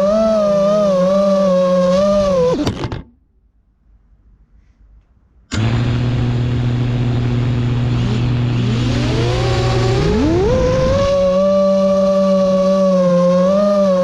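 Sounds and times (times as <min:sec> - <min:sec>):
drone motors whining: 0:00.0 - 0:03.0, 0:05.5 - 0:14.0.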